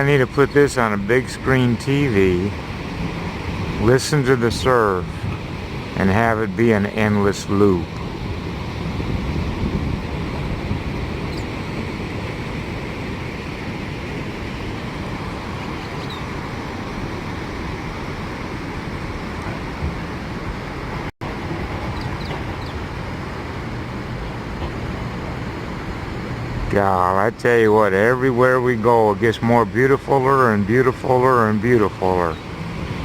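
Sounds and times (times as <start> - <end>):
ocean surf breaking: 0.0 - 33.0.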